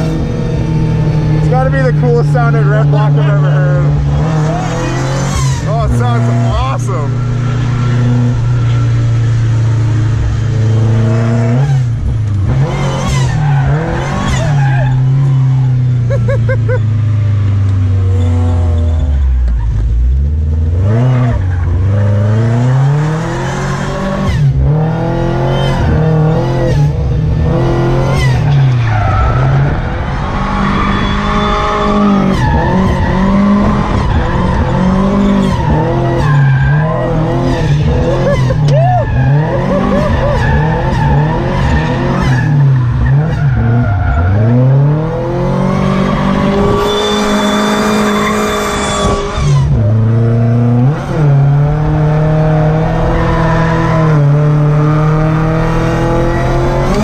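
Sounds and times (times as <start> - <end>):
car engine revving hard: 0.0 - 18.8, 20.2 - 57.0.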